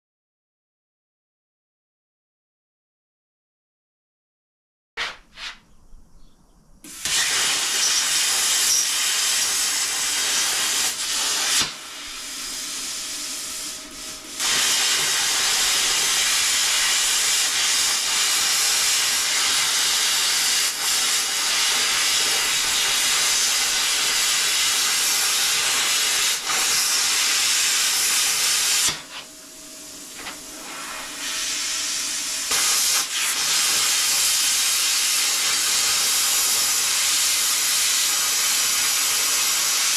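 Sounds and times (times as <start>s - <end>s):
plasma cutter hissing: 6.8s - 39.9s.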